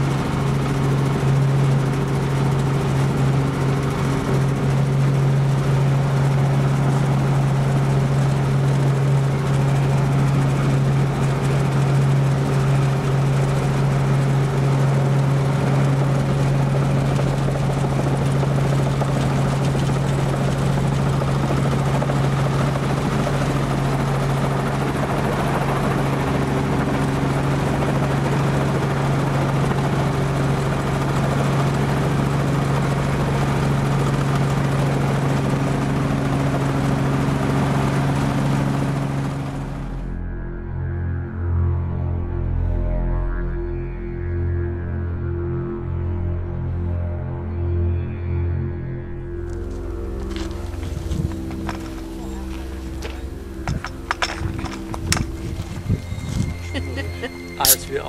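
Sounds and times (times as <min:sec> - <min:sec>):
helicopter engine and rotor drone: 0:00.0 - 0:40.4, 0:49.0 - 0:58.0.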